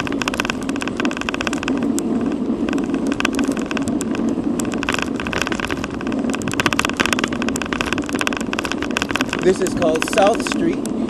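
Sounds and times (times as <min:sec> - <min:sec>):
bicycle rattling clicks: 0:00.0 - 0:11.0
road and wind rumble: 0:00.0 - 0:11.0.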